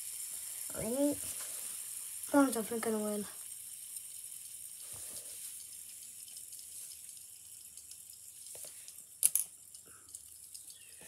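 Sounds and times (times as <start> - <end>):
fidget spinner whir: 0.0 - 11.0.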